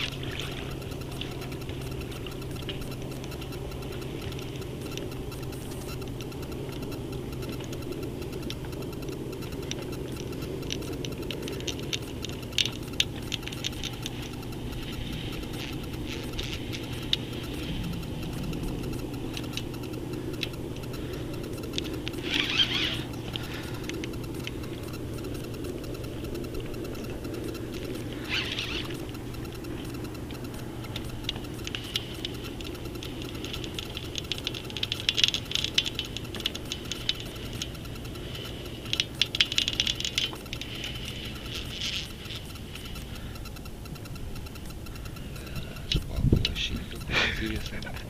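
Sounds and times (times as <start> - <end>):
sharp clicks: 0.0 - 48.0
small motor humming: 0.0 - 48.0.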